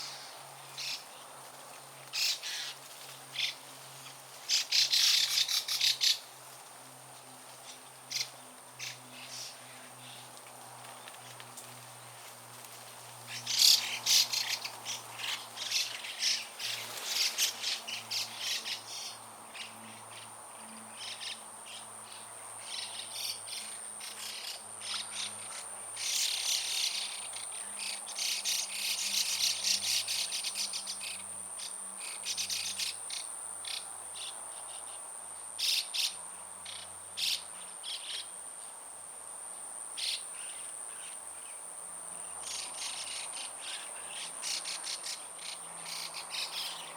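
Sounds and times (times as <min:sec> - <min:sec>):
songbirds chirping: 0:00.0 - 0:46.9
insect trill: 0:02.1 - 0:06.5, 0:13.2 - 0:46.9.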